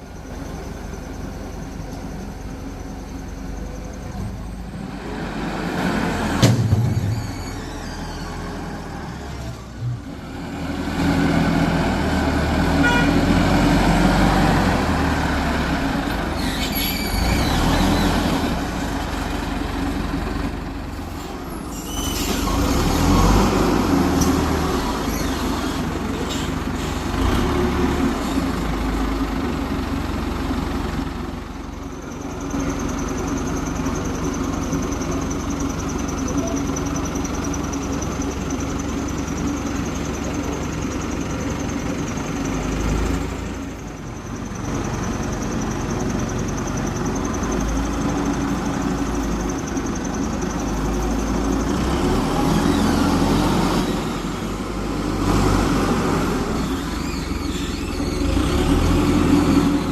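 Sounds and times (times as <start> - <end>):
diesel engine of construction machine: 0.0 - 59.9.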